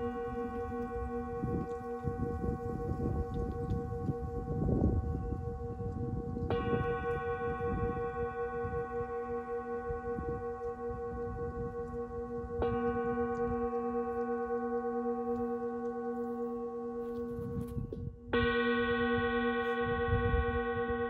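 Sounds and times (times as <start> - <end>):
singing bowl struck and ringing: 0.0 - 2.5, 6.5 - 21.0.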